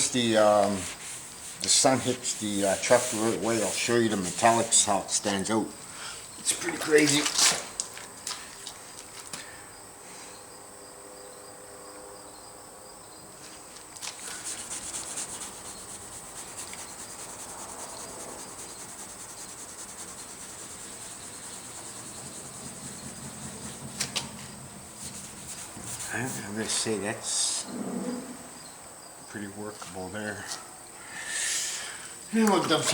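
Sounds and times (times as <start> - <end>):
crickets chirping: 0.0 - 32.9.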